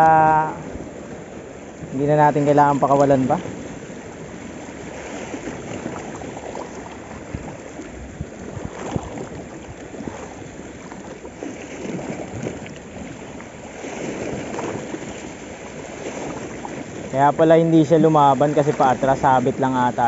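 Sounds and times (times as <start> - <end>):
sea waves splashing on rocks: 0.0 - 20.0.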